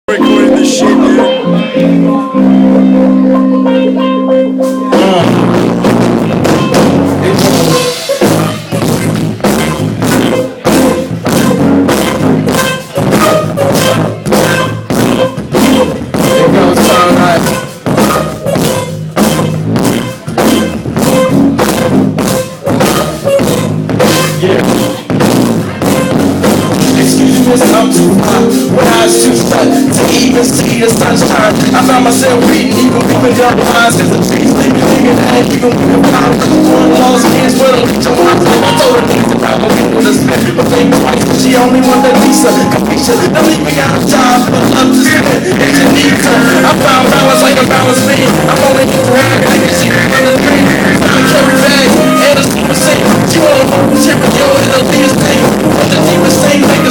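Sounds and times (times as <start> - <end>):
drum kit beat: 0.1 - 56.9
live band instrumental groove: 0.1 - 56.9.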